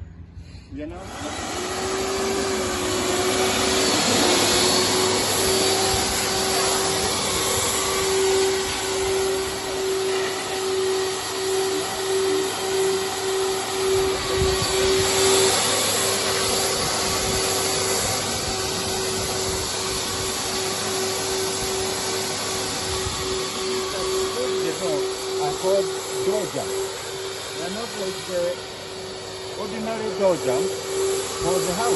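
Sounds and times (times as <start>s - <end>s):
rushing air: 0.3s - 31.9s
vacuum motor whining: 0.9s - 31.9s.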